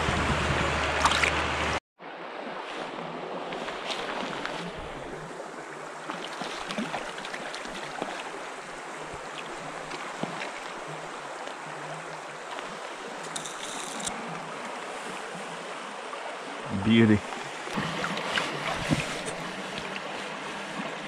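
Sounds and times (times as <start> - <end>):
stream water over rocks: 0.0 - 21.0.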